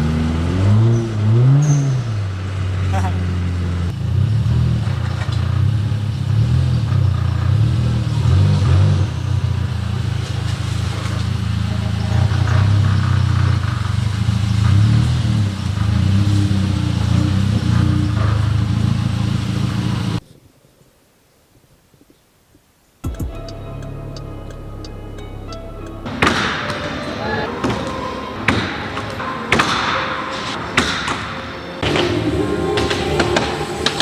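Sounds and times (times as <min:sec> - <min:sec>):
car engine droning: 0:00.0 - 0:20.2, 0:23.1 - 0:34.0.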